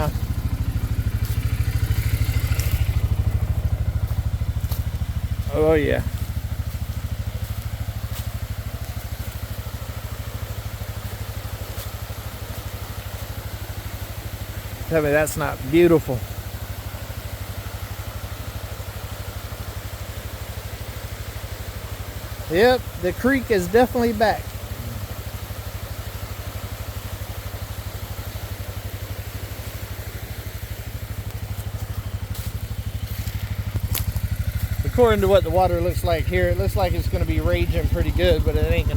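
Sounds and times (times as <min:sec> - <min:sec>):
atv engine idling: 0:00.0 - 0:38.9.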